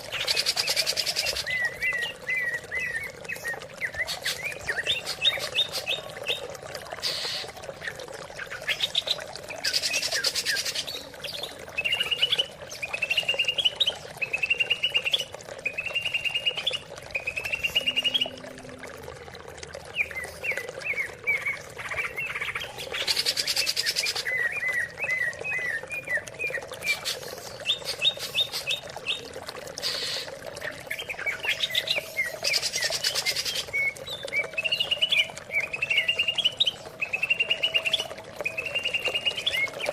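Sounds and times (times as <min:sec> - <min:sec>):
bird song with chirps and trills: 0:00.0 - 0:18.5, 0:19.9 - 0:39.9.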